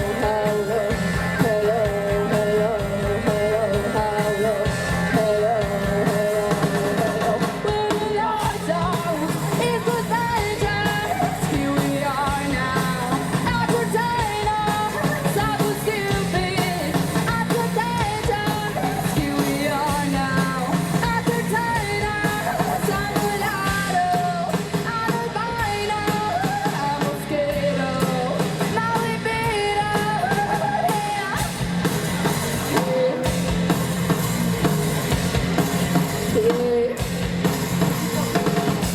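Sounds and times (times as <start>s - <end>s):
lead vocalist singing: 0.0s - 34.0s, 35.9s - 38.9s
bass guitar: 0.0s - 38.9s
drums: 0.0s - 38.9s
electric guitar: 0.0s - 38.9s.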